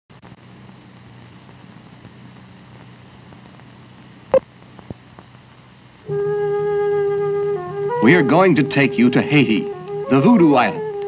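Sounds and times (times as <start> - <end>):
film soundtrack hiss and hum: 0.1 - 11.0.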